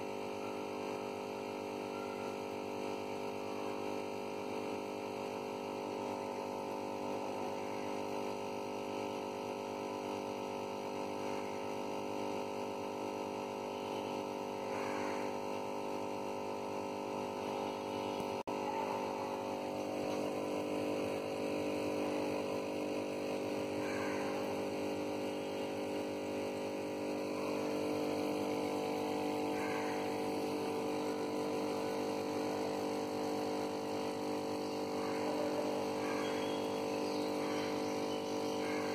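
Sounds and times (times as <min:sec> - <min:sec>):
aquarium air pump humming: 0:00.0 - 0:38.9.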